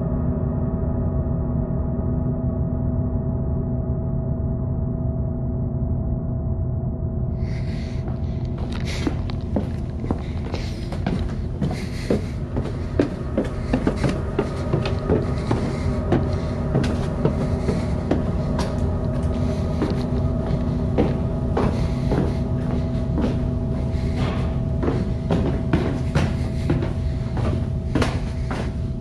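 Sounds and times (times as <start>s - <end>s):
low drone with held tones: 0.0s - 29.0s.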